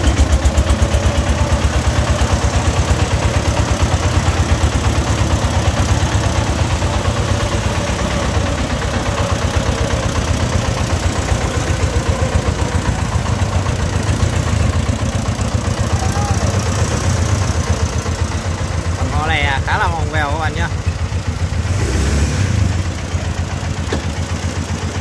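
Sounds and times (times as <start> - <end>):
diesel engine chugging: 0.0 - 25.0.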